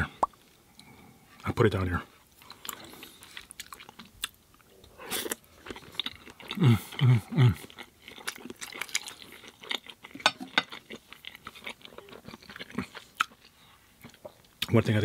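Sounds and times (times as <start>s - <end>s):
chewing pasta: 2.3s - 14.7s.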